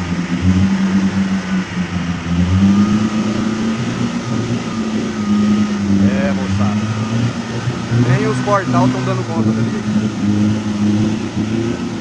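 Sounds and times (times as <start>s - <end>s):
faint high whine: 0.0s - 11.8s
vehicle engine running under load: 0.0s - 12.0s.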